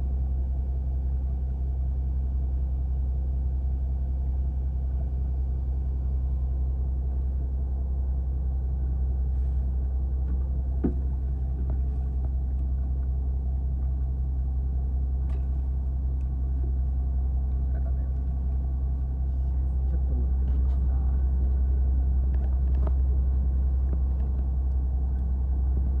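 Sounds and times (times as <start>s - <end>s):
boat engine rumbling: 2.7s - 26.0s.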